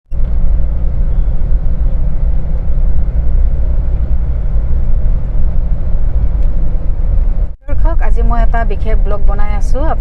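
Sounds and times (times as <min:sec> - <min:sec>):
vehicle rumbling on road: 0:00.1 - 0:10.0.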